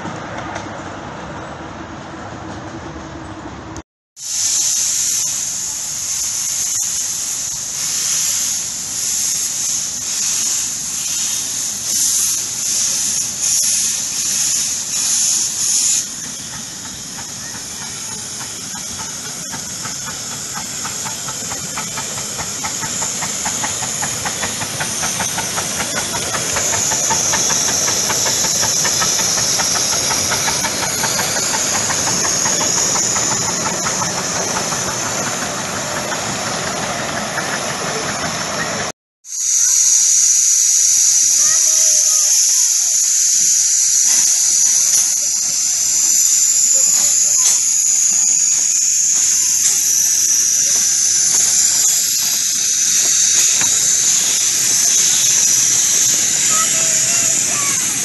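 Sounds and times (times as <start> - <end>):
steam locomotive hissing: 0.0 - 58.0
steam train running: 0.0 - 58.0.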